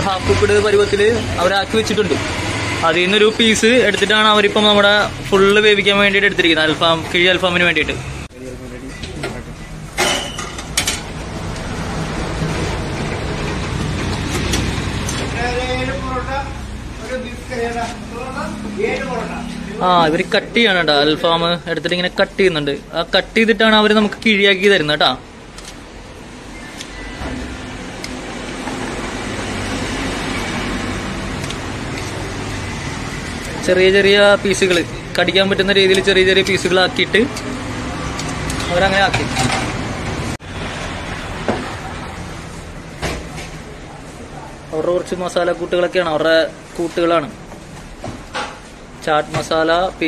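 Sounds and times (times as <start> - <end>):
road traffic rushing: 0.0 - 50.0.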